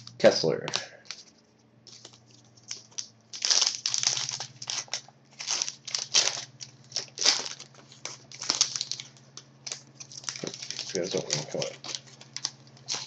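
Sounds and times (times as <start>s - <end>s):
cards shifting: 0.0s - 13.0s
plastic wrapper crinkling: 0.0s - 13.0s.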